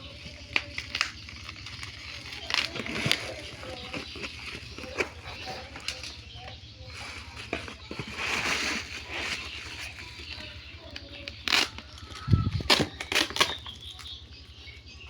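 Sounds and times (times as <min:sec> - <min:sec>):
packaging rustling: 0:00.2 - 0:14.2.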